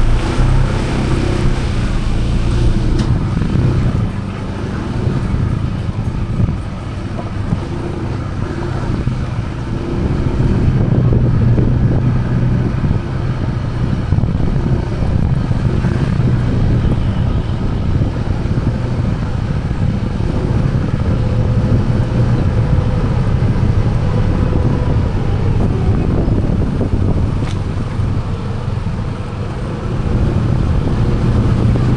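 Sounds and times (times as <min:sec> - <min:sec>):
road and wind rumble: 0:00.0 - 0:31.9
vehicle engine running: 0:00.0 - 0:31.9.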